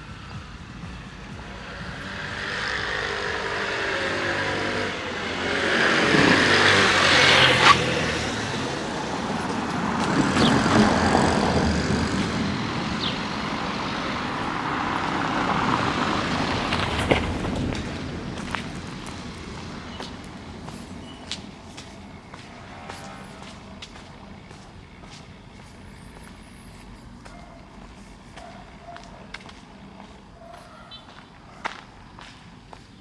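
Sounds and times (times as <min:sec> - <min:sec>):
vehicles passing by: 0:00.0 - 0:33.0.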